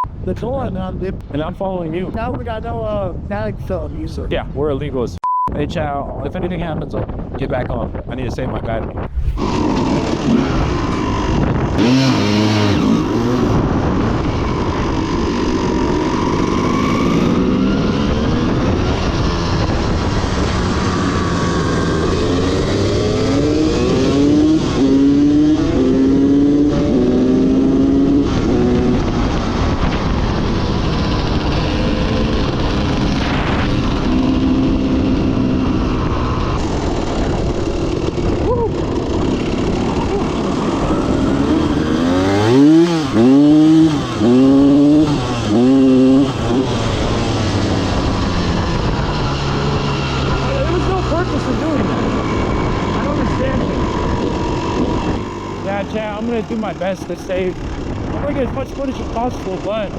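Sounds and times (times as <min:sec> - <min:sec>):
wind on microphone: 0:00.0 - 0:59.9
dirt bike engines revving: 0:07.4 - 0:59.9.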